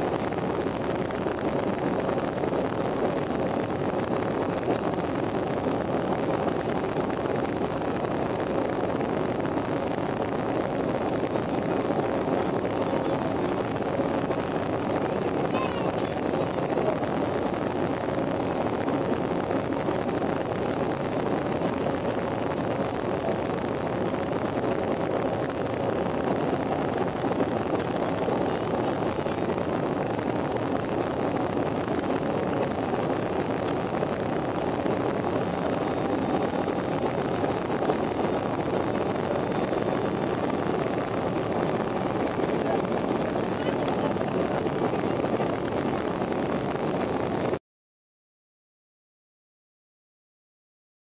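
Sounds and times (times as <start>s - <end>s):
jet cabin engine noise: 0.0s - 47.6s.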